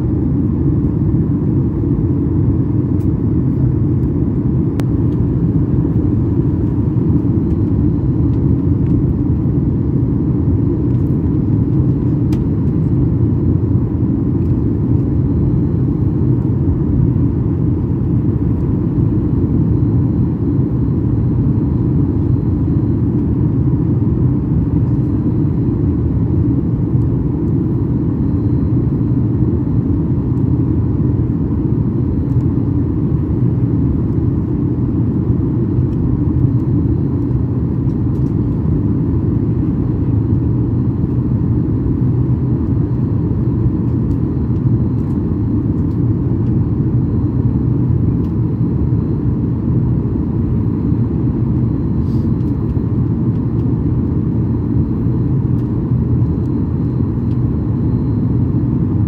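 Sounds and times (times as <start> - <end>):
faint high whine: 0.0 - 59.0
jet engine cabin rumble: 0.0 - 59.0.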